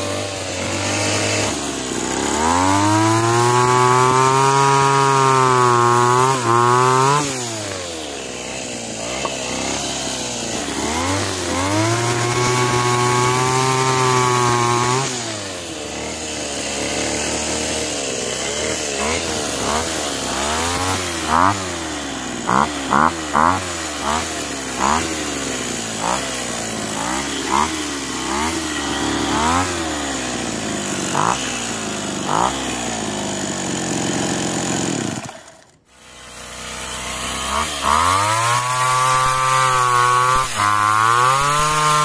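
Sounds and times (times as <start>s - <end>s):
small engine revving: 0.0s - 42.0s.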